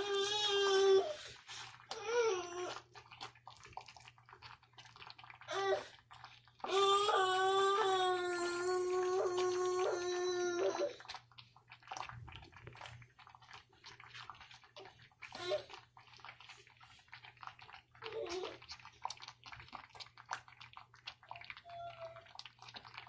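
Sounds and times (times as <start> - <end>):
porridge bubbles popping: 0.0 - 23.0.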